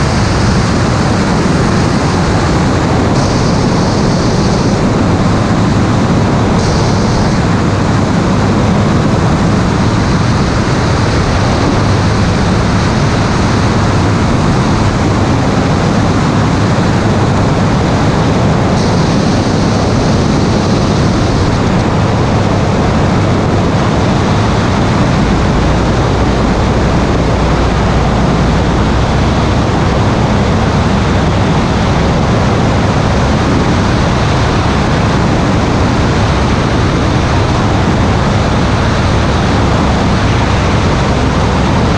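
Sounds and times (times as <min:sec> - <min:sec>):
air rushing on microphone: 0:00.0 - 0:41.9.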